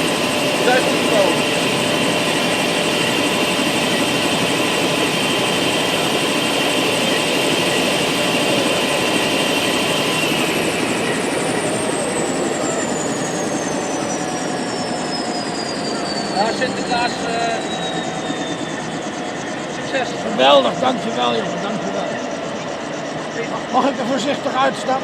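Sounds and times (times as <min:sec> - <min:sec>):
engine whine spooling down: 0:00.0 - 0:25.0
helicopter engine and rotor: 0:00.0 - 0:25.0.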